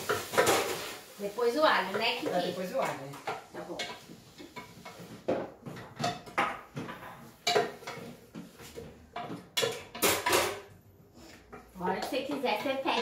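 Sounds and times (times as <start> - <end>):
wooden spoon stirring in pot: 0.0 - 10.0, 10.7 - 13.0.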